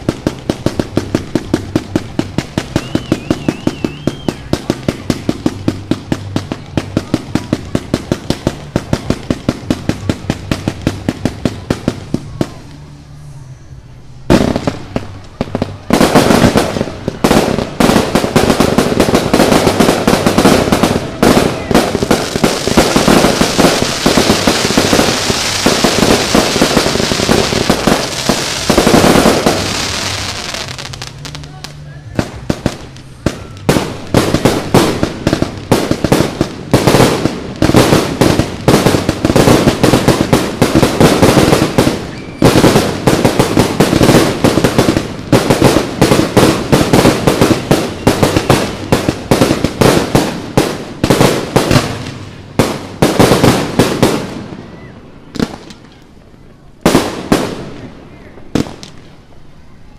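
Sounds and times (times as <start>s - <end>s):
loud firework blast: 0.0s - 13.4s, 14.1s - 55.9s, 56.9s - 59.1s
fireworks bangs and crackling: 0.0s - 59.9s.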